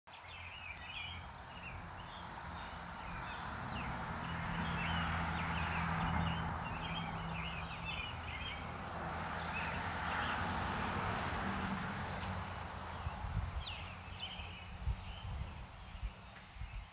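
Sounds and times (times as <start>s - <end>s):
birds chirping: 0.1s - 10.7s, 12.2s - 16.9s.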